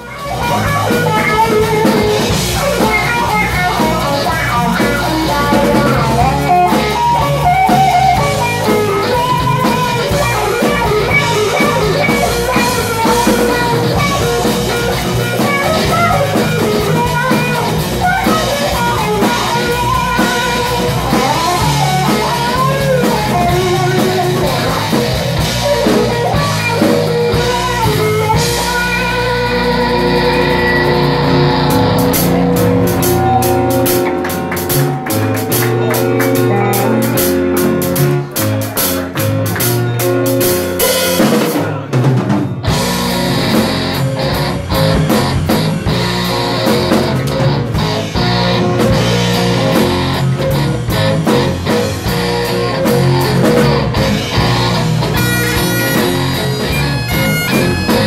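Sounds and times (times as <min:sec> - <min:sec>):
electric guitar solo: 0:00.0 - 0:41.9, 0:42.6 - 0:58.0
live rock band playing: 0:00.0 - 0:58.0.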